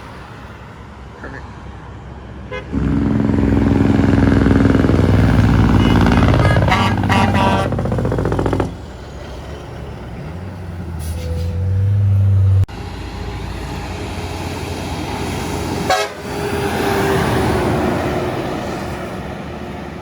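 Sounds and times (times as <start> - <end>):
heavy trucks passing: 0.0 - 20.0
steady road noise: 0.0 - 20.0
truck engine drone: 0.0 - 20.0.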